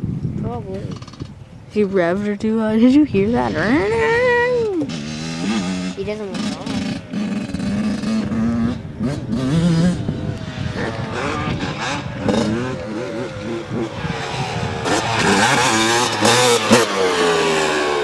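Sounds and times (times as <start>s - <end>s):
dirt bike engines revving: 0.4s - 18.0s.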